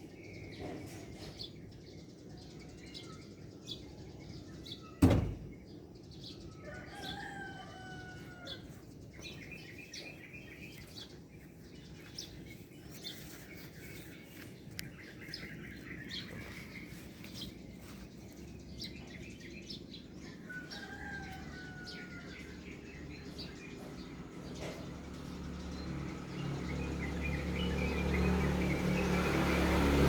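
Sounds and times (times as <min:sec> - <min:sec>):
small birds chirping: 0:00.0 - 0:29.2.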